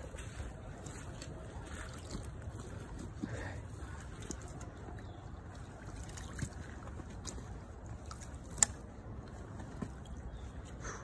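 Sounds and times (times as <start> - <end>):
footsteps over rocks: 0.0 - 10.7.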